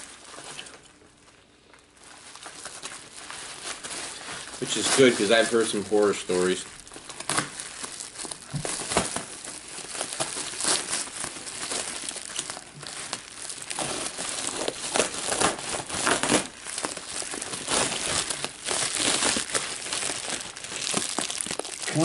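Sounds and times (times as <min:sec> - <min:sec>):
bubble wrap crackling: 0:00.0 - 0:22.0.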